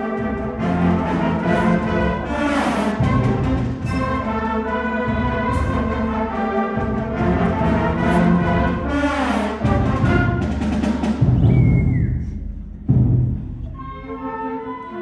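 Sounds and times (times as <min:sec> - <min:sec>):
concert band playing: 0:00.0 - 0:15.0.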